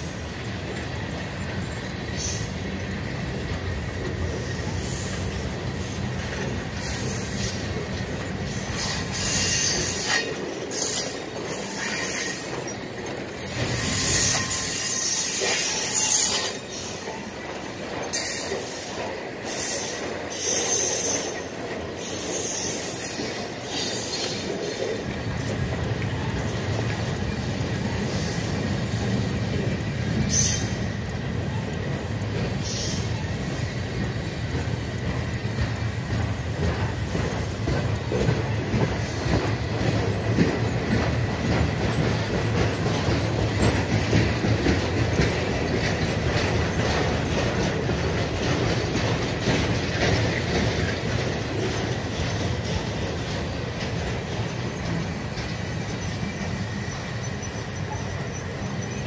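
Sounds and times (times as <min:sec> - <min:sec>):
low train rumble: 0:00.0 - 0:59.0
train wheels clattering on rail: 0:00.0 - 0:59.0
wheel squeals on rail: 0:00.0 - 0:59.0.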